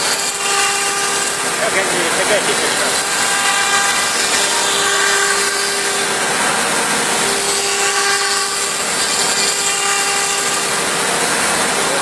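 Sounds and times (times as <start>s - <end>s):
router cutting wood: 0.0s - 12.0s.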